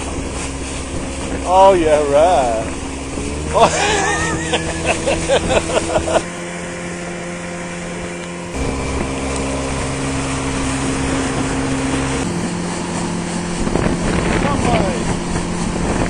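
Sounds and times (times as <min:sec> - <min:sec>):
boat outboard motor running: 0:00.0 - 0:16.0.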